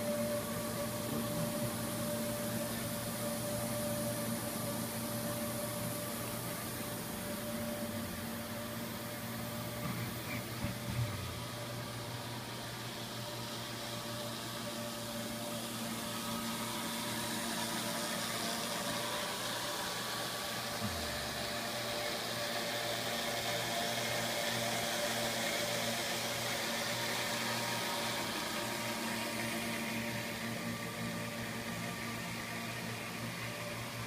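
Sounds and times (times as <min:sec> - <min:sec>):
machine hum with hiss: 0:00.0 - 0:34.0.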